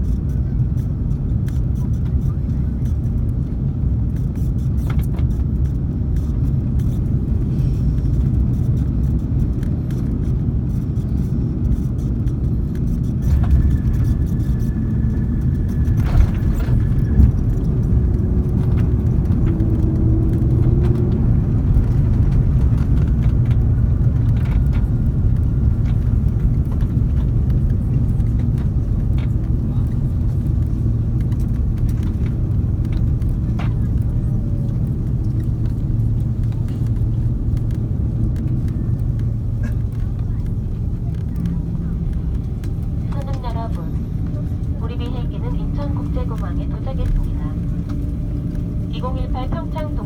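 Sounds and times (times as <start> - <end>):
aircraft cabin engine rumble: 0.0 - 50.0.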